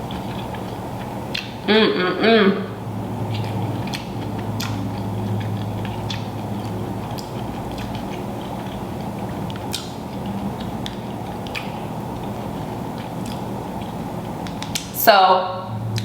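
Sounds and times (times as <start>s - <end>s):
eating clicks and smacks: 0.0s - 1.7s, 3.3s - 15.0s
steady low hum: 0.0s - 16.0s.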